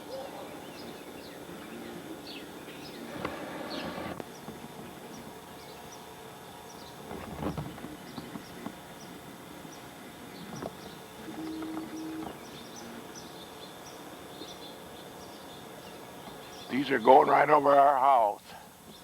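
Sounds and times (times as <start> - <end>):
small birds chirping: 0.0 - 17.8, 18.6 - 19.0
steady outdoor hiss: 0.0 - 19.0.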